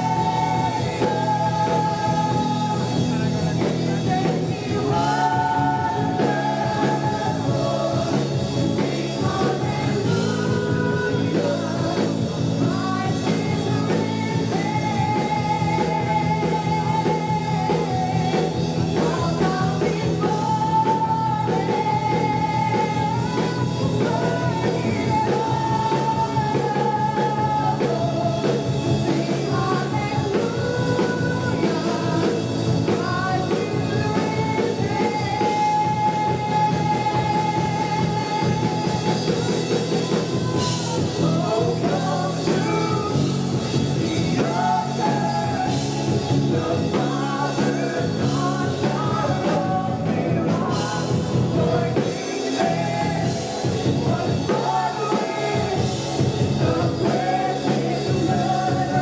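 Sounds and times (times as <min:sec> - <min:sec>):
band with electric guitars: 0:00.0 - 0:59.0
congregation singing along: 0:00.0 - 0:59.0
man and woman singing: 0:00.0 - 0:59.0.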